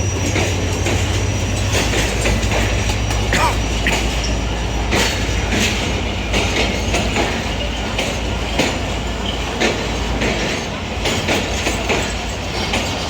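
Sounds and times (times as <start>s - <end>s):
train rumbling: 0.0s - 13.0s
wheels clacking over rail joints: 0.0s - 13.0s.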